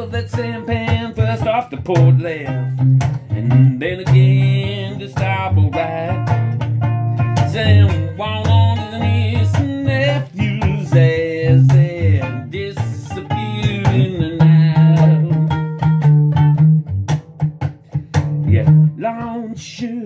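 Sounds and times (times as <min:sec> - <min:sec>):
person singing: 0:00.0 - 0:06.6, 0:07.2 - 0:15.9, 0:18.5 - 0:20.0
bass line: 0:00.0 - 0:20.0
plucked string instrument: 0:00.0 - 0:20.0.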